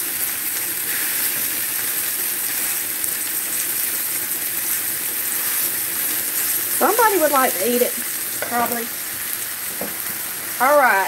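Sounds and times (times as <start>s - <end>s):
steaks sizzling in hot oil: 0.0s - 11.0s.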